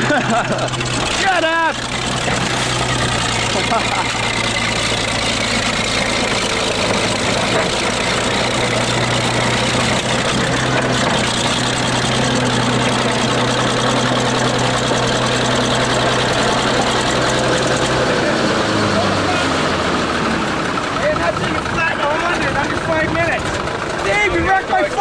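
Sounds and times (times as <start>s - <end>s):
bulldozer engine running: 0.0s - 25.0s.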